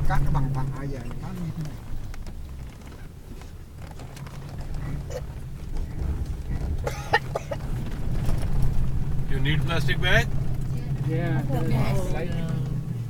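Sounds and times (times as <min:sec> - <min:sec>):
car engine drone under load: 0:00.0 - 0:13.0.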